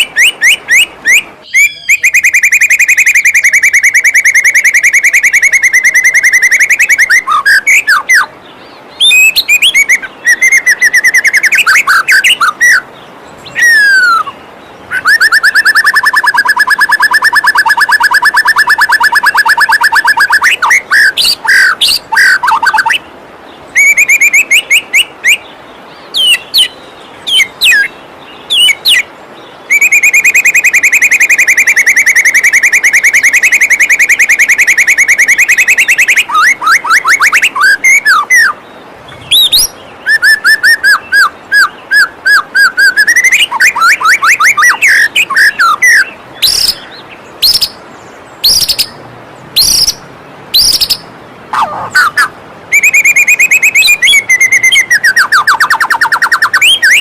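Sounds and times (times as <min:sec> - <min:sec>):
bird song trills and whistles: 0:00.0 - 0:49.0, 0:49.6 - 0:57.0.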